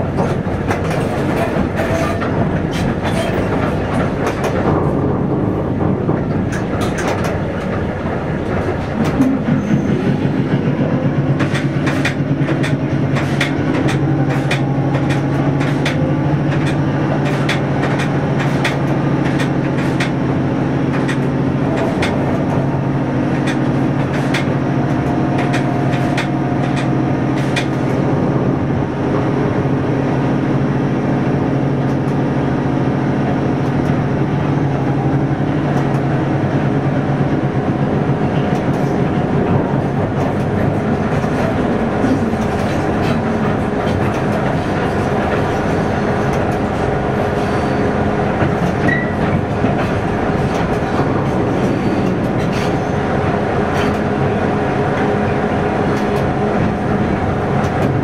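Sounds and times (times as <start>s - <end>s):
wheels clicking over rails: 0.0s - 28.3s, 33.6s - 58.0s
train running noise: 0.0s - 58.0s.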